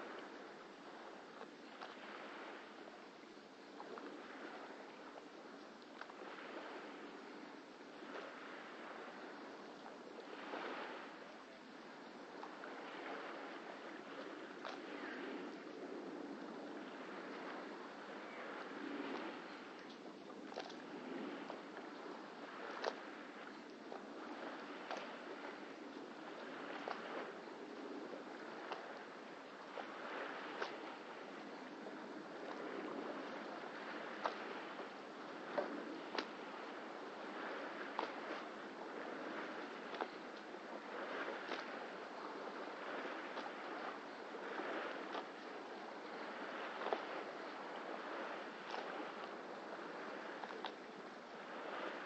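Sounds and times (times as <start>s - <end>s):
waves lapping at wooden jetty: 0.0s - 52.0s
water slapping and splashing: 8.0s - 52.0s.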